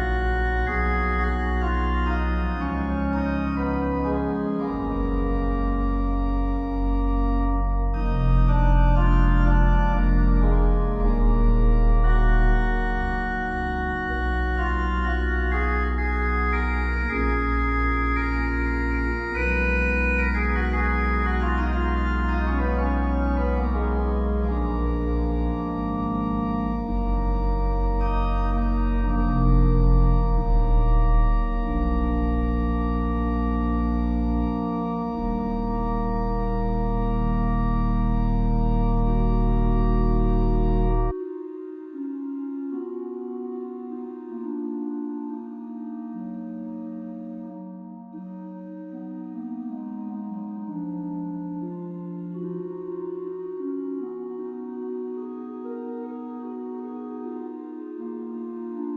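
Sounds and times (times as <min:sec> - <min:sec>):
organ music: 0:00.0 - 0:58.9.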